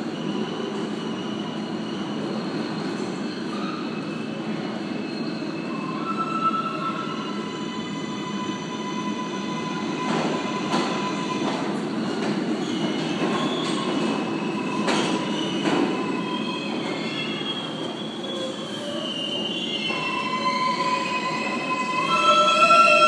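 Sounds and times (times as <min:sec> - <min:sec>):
subway train wheels rumbling: 0:00.0 - 0:23.0
wheels and brakes squealing: 0:00.2 - 0:23.0.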